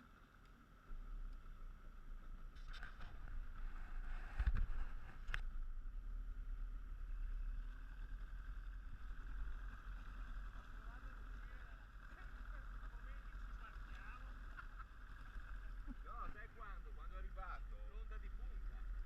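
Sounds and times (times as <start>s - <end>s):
speedboat engine rumble: 0.7s - 19.0s.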